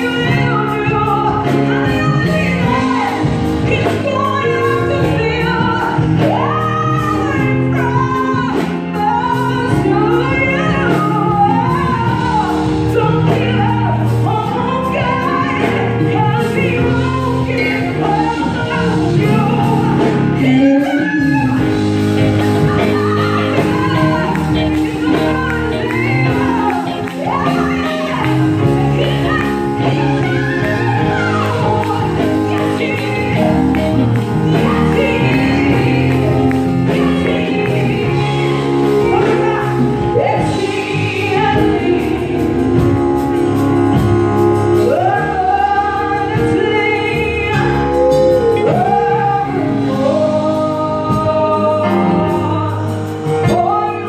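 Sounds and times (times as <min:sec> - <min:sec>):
sustained instrumental accompaniment: 0:00.0 - 0:54.0
woman singing gospel: 0:00.0 - 0:54.0.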